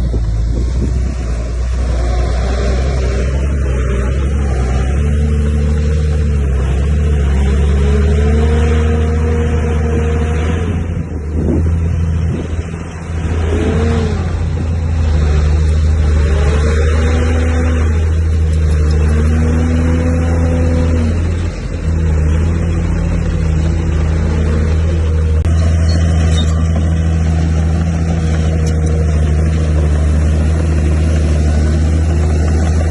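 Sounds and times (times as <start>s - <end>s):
heavy diesel engine droning: 0.0s - 32.9s.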